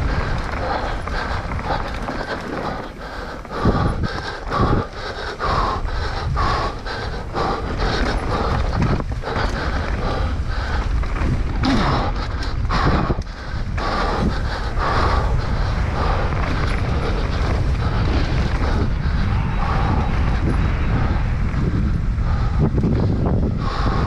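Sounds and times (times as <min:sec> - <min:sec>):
bike clattering over rough ground: 0:00.0 - 0:23.5
low rumble: 0:00.0 - 0:24.0
wind rushing over microphone: 0:00.0 - 0:24.0.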